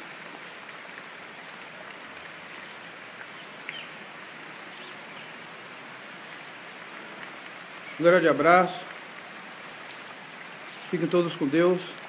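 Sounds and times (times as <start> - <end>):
rain hissing: 0.0 - 12.0
river rushing: 0.0 - 12.0.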